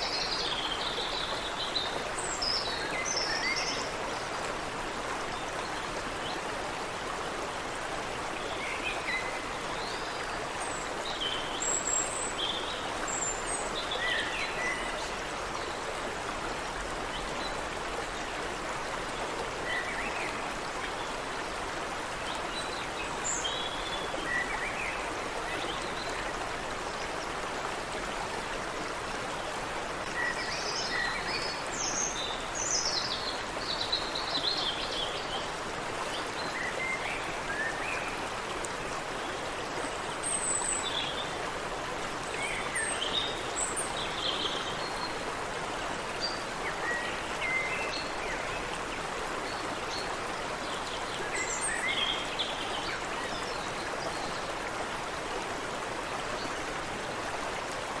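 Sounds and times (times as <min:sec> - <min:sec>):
creek water running: 0:00.0 - 0:58.0.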